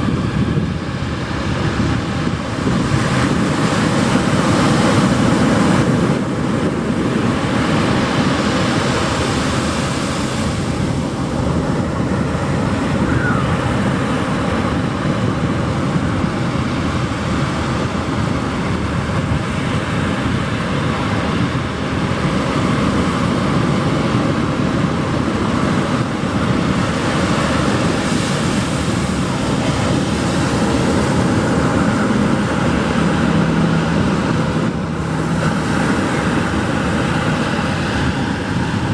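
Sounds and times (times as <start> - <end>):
ocean surf washing on beach: 0.0 - 38.9.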